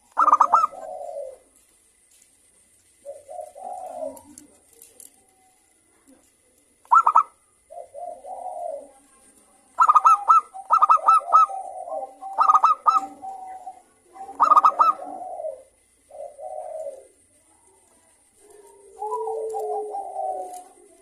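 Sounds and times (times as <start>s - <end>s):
dove singing and cooing: 0.0s - 1.7s, 2.8s - 21.0s.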